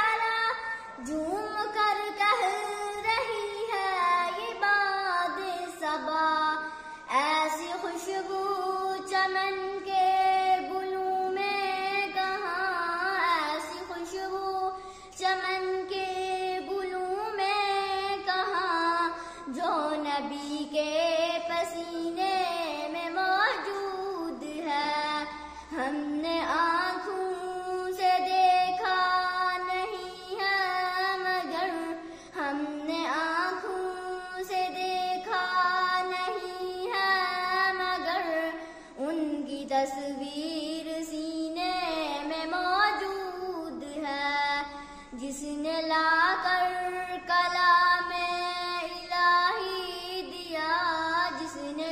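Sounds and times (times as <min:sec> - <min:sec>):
girl singing devotional song: 0:00.0 - 0:51.9.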